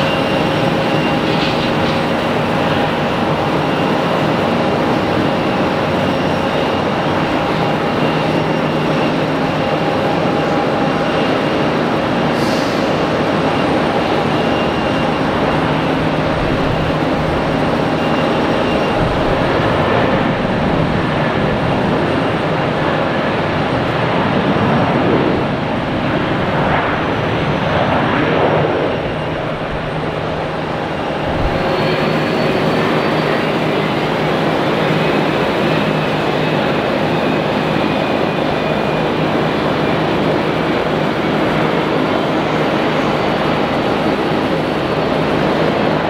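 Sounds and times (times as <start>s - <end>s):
jet airliner passing: 0.0s - 46.0s.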